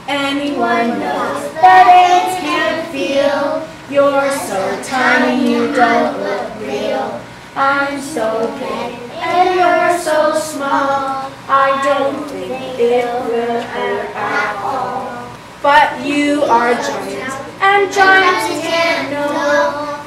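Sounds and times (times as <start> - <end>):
child singing: 0.1 - 20.0.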